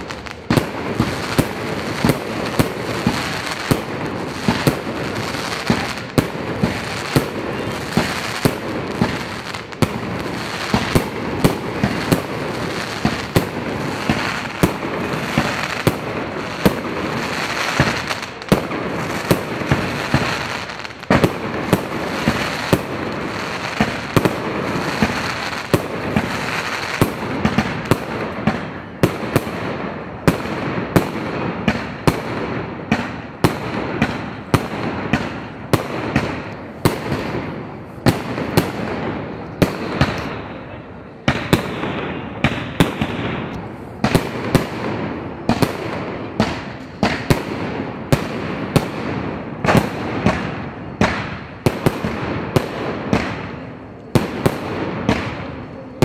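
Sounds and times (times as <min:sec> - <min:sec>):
dense constant noise: 0:00.0 - 0:56.0.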